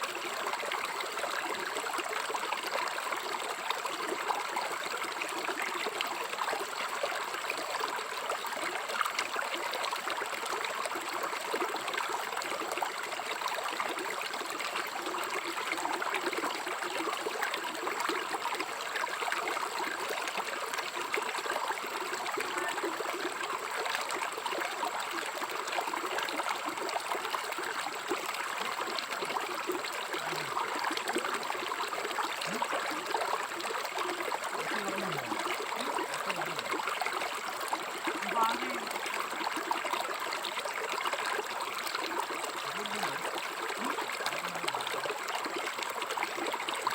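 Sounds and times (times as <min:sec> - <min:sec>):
river water over stones: 0:00.0 - 0:46.9.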